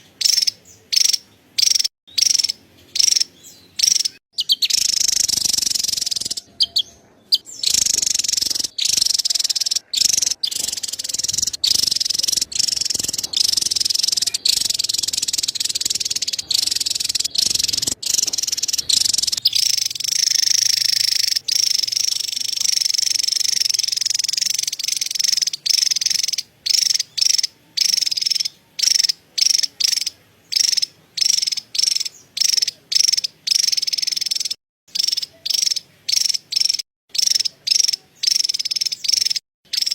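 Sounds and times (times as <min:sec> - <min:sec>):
bird chattering trill: 0:00.0 - 0:39.9.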